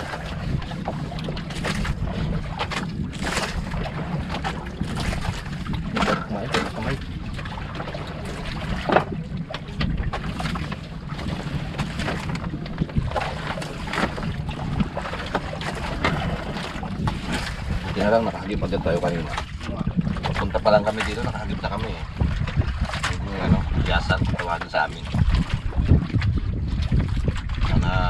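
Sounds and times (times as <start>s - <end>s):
sea noise: 0.0s - 28.0s
wind rumbling on microphone: 0.0s - 28.0s.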